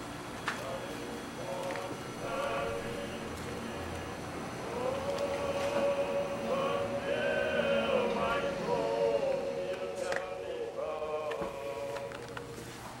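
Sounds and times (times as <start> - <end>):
choir singing long notes: 0.6 - 12.6.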